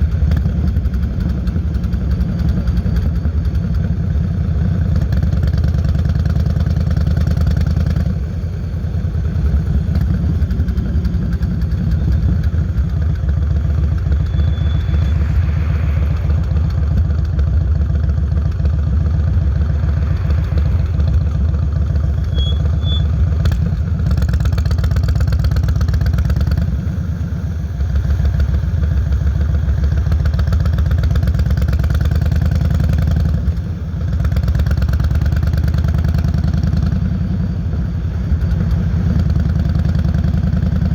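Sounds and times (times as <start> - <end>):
motorcycle exhaust pulsing: 0.0 - 40.9.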